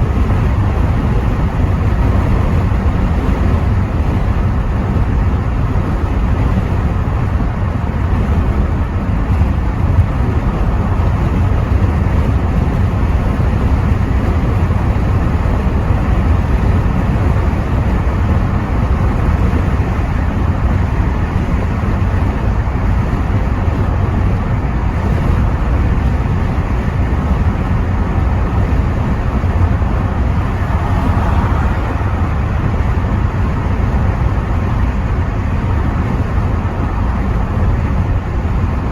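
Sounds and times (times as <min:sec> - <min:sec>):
car engine and road rumble: 0:00.0 - 0:38.9
wind buffeting through windows: 0:00.0 - 0:38.9.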